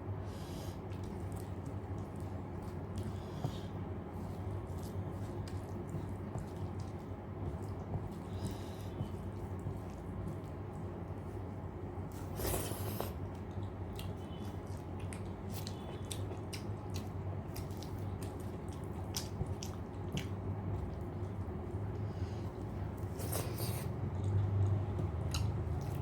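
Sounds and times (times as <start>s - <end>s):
chewing food: 0.3s - 26.0s.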